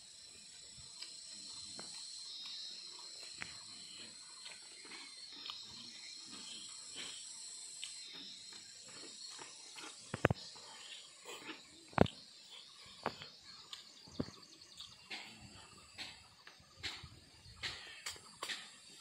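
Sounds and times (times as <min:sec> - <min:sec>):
high-pitched insect drone: 0:00.0 - 0:19.0
soft chewing: 0:00.9 - 0:17.0.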